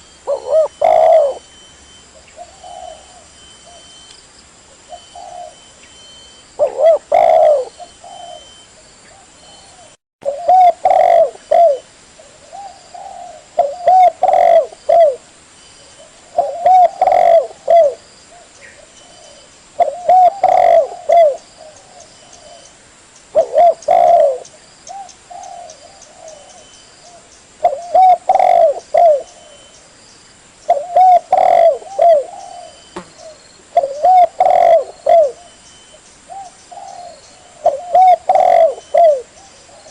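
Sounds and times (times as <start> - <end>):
dove cooing: 0.0 - 1.5, 2.2 - 3.9, 4.8 - 15.2, 16.0 - 22.7, 23.3 - 29.8, 30.7 - 35.6, 36.3 - 39.9.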